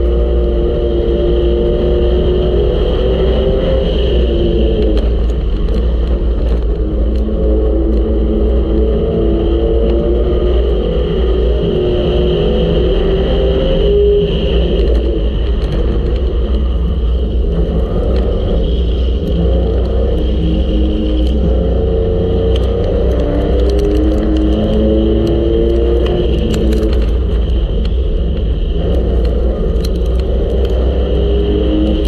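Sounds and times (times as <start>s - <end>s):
low rumble: 0.0s - 32.0s
race car engine running hard: 0.0s - 32.0s.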